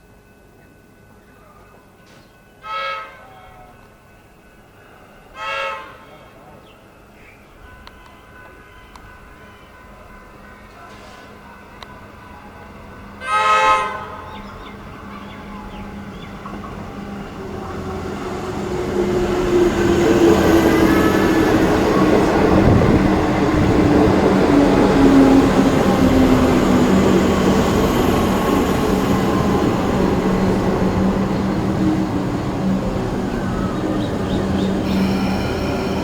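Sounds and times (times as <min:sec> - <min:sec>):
electric train passing: 0:00.0 - 0:36.0.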